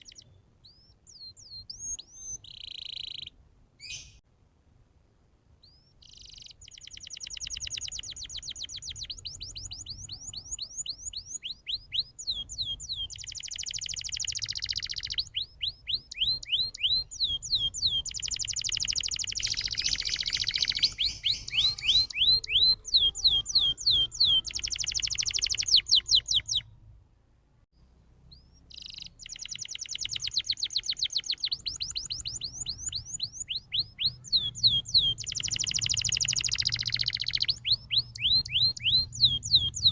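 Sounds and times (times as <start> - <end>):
canary singing trills: 0.0 - 4.2, 5.6 - 26.8, 28.2 - 39.9.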